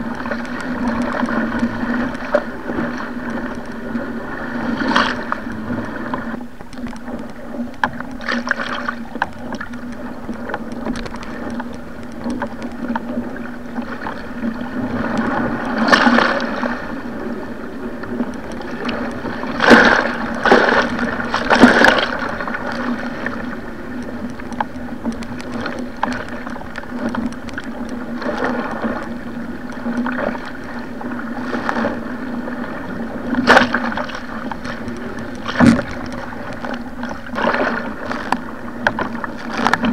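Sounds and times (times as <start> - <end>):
sea water rushing and splashing: 0.0 - 39.9.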